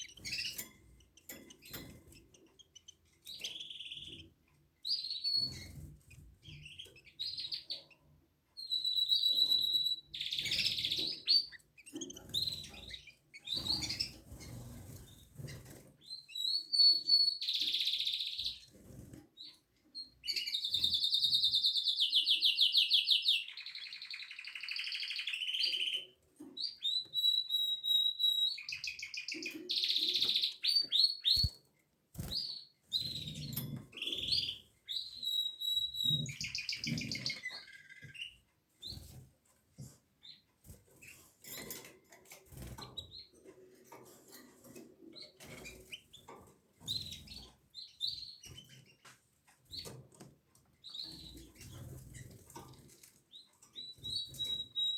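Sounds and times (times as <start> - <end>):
canary singing: 0.0 - 39.1, 44.6 - 50.0, 50.8 - 54.9.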